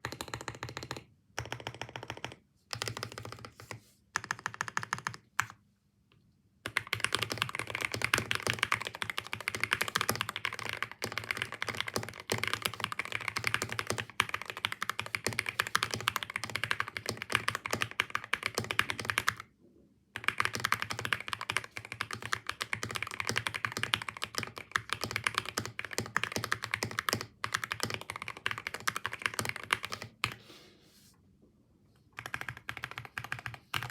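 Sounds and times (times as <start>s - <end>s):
typing on mechanical keyboard: 0.0s - 5.6s, 6.6s - 19.5s, 20.2s - 30.4s, 32.2s - 33.9s.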